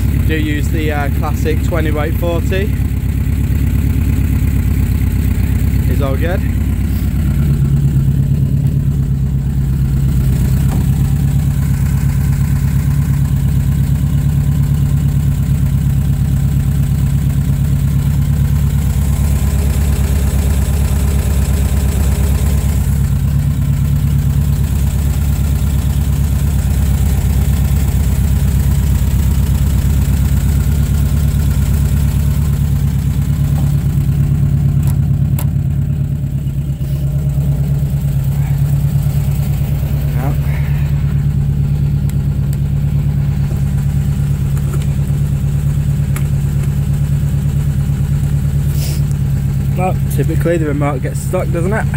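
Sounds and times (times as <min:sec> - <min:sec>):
van engine idling: 0:00.0 - 0:51.9.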